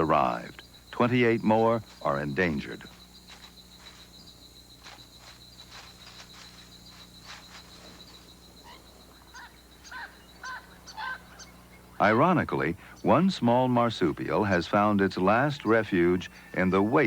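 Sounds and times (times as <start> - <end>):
chirping animal calls: 0.0 - 17.0.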